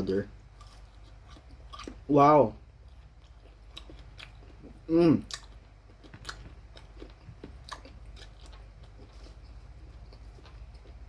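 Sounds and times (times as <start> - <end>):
person chewing fried food: 0.2 - 11.0.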